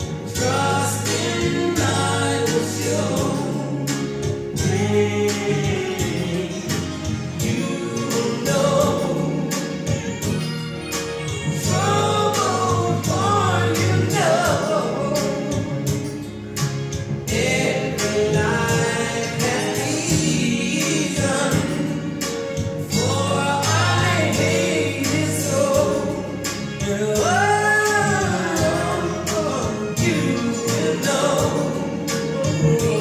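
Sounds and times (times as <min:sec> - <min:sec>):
song played from vinyl record: 0:00.0 - 0:33.0.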